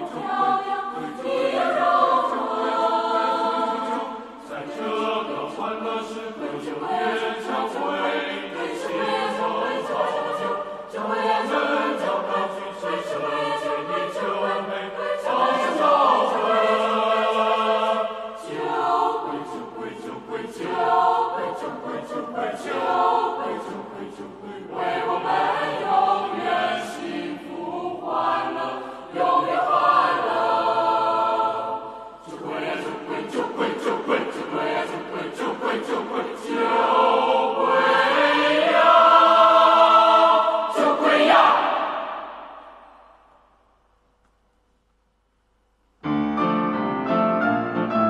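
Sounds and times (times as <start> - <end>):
school choir singing: 0.0 - 43.4.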